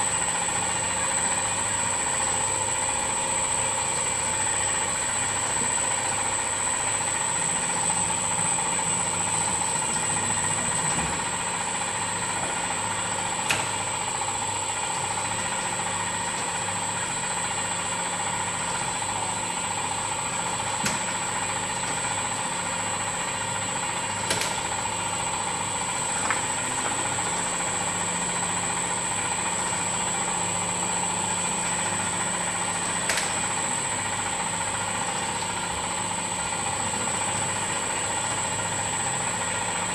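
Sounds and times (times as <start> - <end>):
machine hum with high whine: 0.0 - 39.9.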